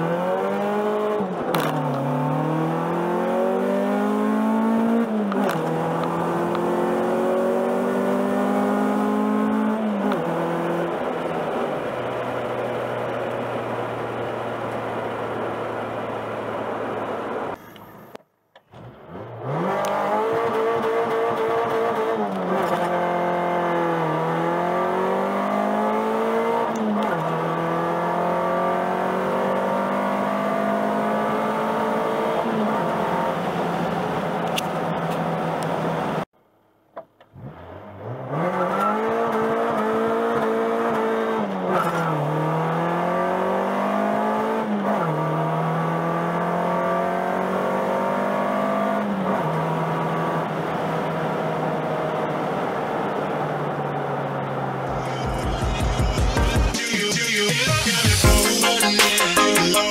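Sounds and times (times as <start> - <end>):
car engine accelerating: 0.0 - 36.3, 37.2 - 56.8.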